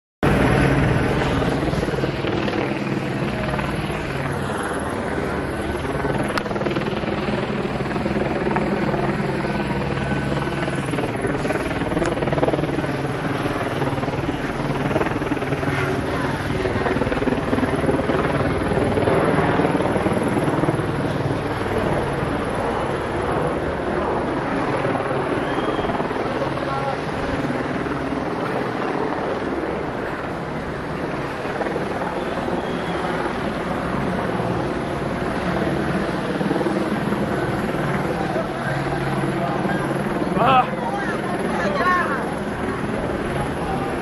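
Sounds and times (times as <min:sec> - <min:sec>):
helicopter rotor and engine: 0:00.2 - 0:44.0.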